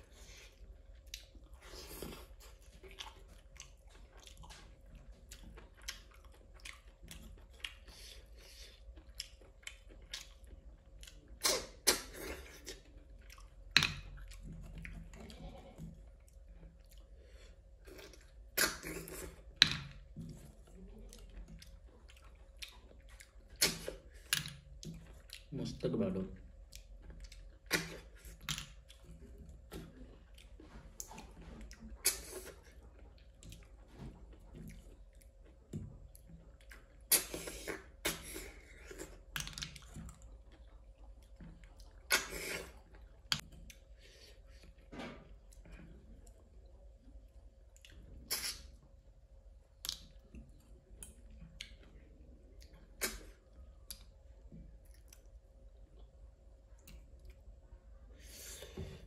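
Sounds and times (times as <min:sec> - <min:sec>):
person chewing: 0:00.0 - 0:25.8, 0:26.4 - 0:48.9, 0:49.7 - 0:57.5
faint steady hum: 0:00.0 - 0:59.0.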